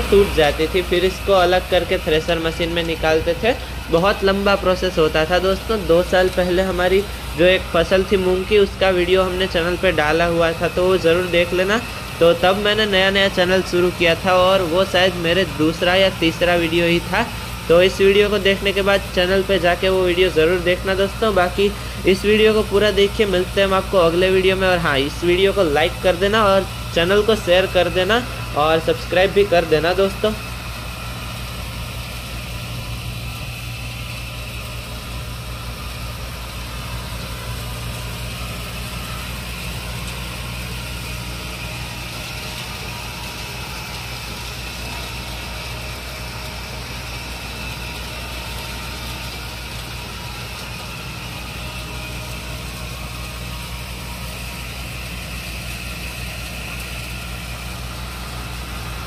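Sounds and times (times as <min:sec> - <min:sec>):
thresher drum and fan droning: 0:00.0 - 0:59.0
tractor engine: 0:00.0 - 0:59.0.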